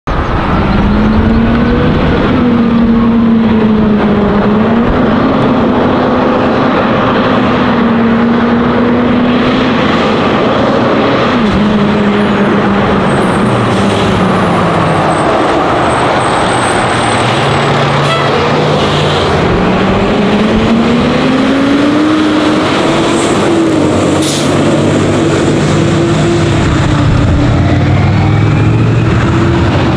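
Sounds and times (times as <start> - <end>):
fire engine diesel engine: 0.1 - 29.9.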